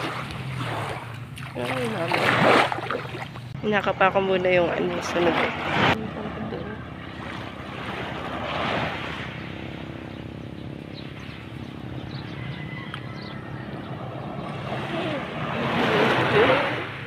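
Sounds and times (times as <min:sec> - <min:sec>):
boat engine running: 0:00.0 - 0:17.0
water wash: 0:00.0 - 0:17.0.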